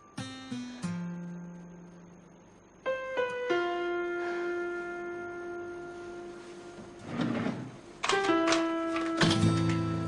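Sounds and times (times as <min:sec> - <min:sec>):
soft piano-like keyboard notes: 0:00.0 - 0:10.0.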